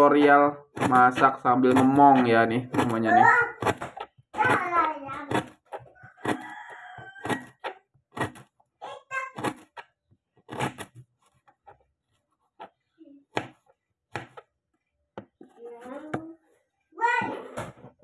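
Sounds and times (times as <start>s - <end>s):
knife chopping on plastic board: 0.0s - 16.4s.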